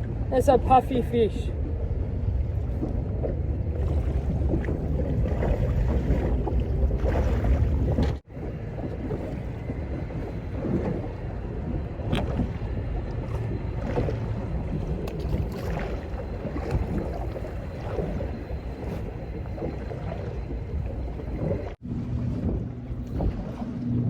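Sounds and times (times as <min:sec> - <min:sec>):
outboard motor running: 0:00.0 - 0:24.0
water slapping against hull: 0:00.0 - 0:24.0
wind on microphone: 0:01.4 - 0:24.0.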